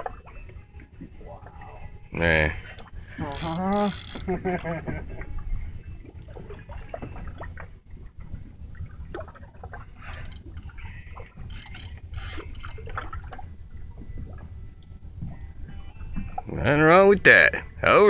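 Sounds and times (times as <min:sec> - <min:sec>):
water lapping against boat hull: 0:00.0 - 0:17.8.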